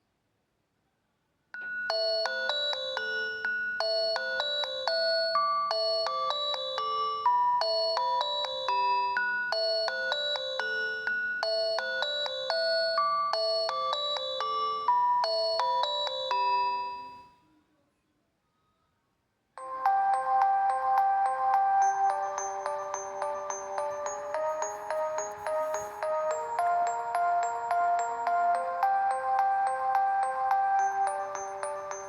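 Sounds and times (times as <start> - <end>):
phone ringtone melody: 1.6 - 17.3, 19.6 - 32.0.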